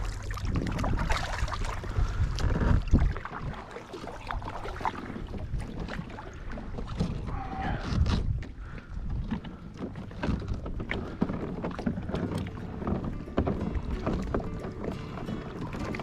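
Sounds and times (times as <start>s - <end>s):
water splashing around kayak: 0.0s - 16.0s
wind buffeting microphone: 0.0s - 16.0s.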